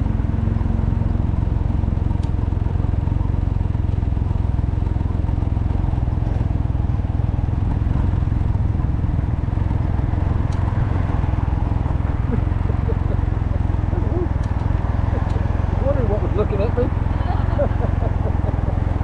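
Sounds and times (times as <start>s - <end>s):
three-wheeler engine running: 0.0s - 19.0s.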